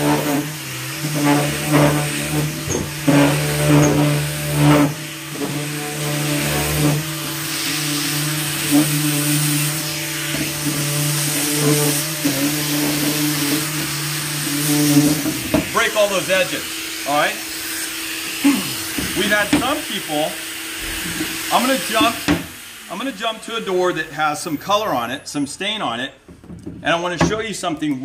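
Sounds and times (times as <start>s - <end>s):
electric sander humming: 0.0s - 24.0s.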